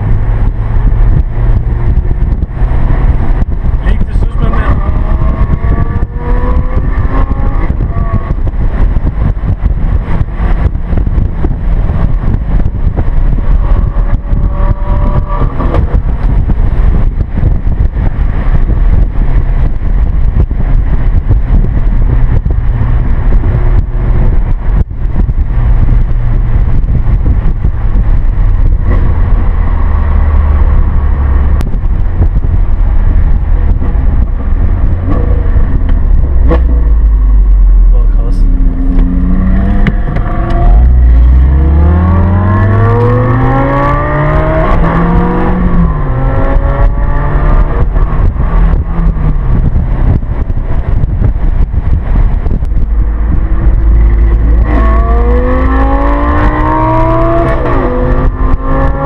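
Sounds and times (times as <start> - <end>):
car engine accelerating: 0.0 - 59.0
road and wind rumble: 0.0 - 59.0.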